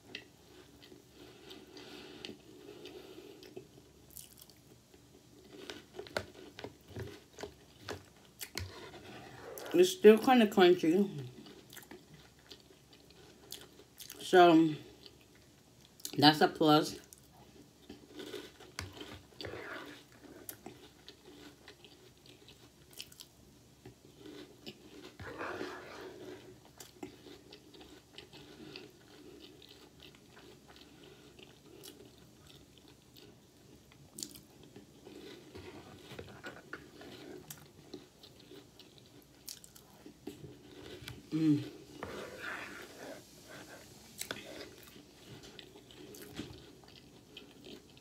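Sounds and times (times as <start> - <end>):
chewing crunchy cereal: 0.0 - 10.0, 11.0 - 16.2, 17.0 - 48.0.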